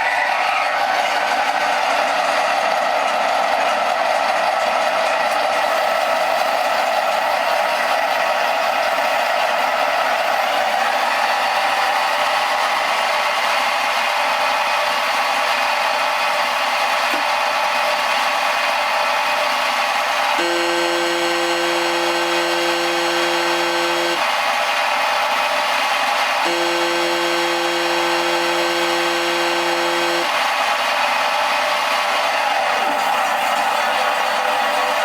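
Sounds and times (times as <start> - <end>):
engine sound through small loudspeaker: 0.0 - 35.0.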